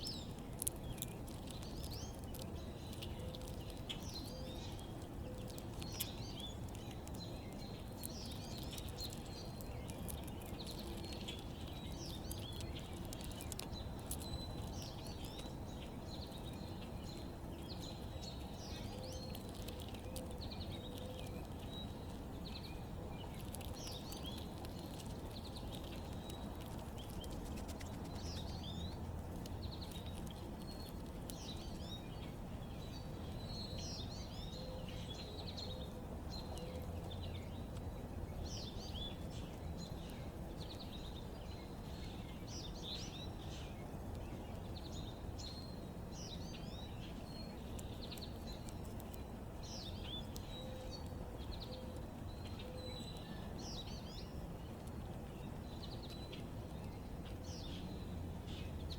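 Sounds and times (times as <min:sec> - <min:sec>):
low background rumble: 0:00.0 - 0:58.9
small birds chirping: 0:00.0 - 0:58.9.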